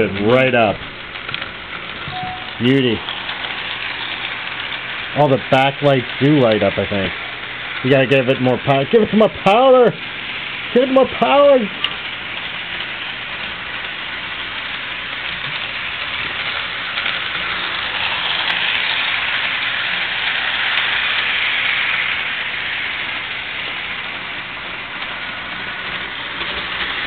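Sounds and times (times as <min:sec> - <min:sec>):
model train whirring on rails: 0:00.0 - 0:27.0.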